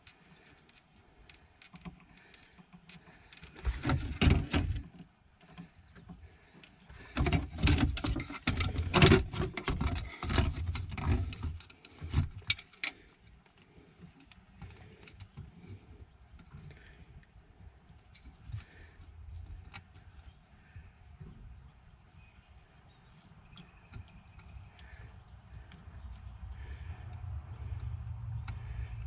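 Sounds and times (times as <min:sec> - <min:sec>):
hands rustling and clicking wires: 0:00.0 - 0:17.3, 0:17.9 - 0:20.8, 0:23.1 - 0:29.0.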